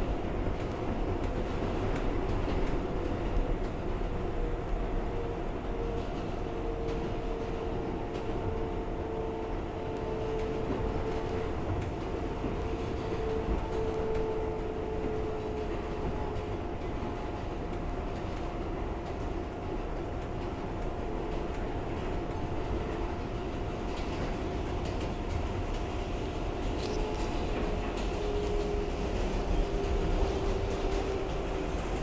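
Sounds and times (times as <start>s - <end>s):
subway wheels rumbling on rails: 0.0s - 32.0s.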